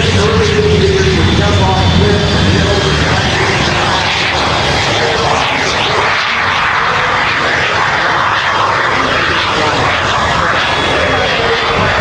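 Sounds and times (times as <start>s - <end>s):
small jet engine passing: 0.0s - 12.0s.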